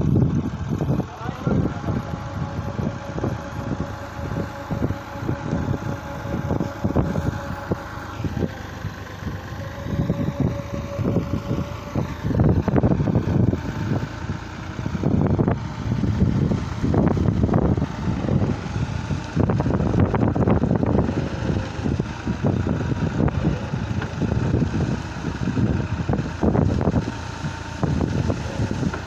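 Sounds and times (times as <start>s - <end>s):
diesel tractor engine running: 0.0s - 29.0s
thin steady whine: 0.0s - 29.0s.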